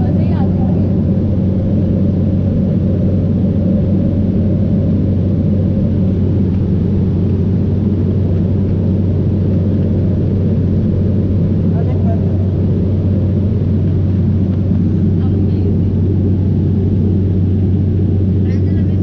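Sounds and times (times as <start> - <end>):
propeller airliner cabin drone: 0.0 - 19.0.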